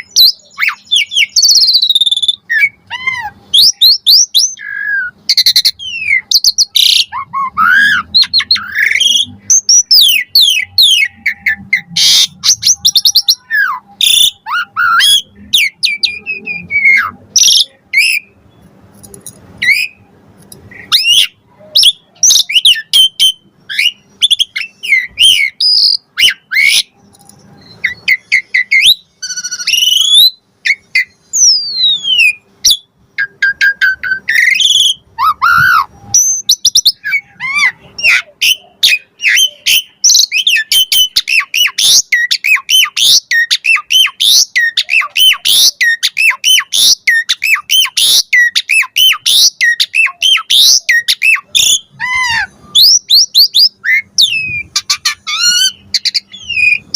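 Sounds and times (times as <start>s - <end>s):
starling singing: 0.0s - 56.9s.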